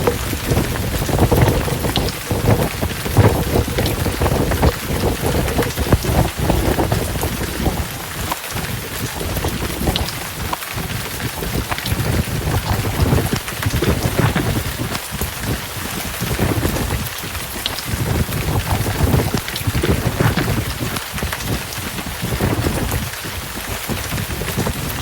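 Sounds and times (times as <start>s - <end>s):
heavy rain pouring: 0.0s - 25.0s
low thunder rumbling: 0.0s - 25.0s.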